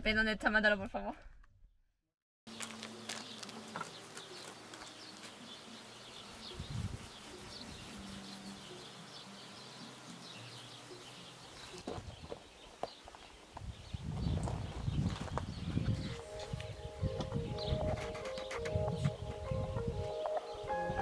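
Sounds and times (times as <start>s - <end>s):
small birds chirping: 2.5s - 21.0s.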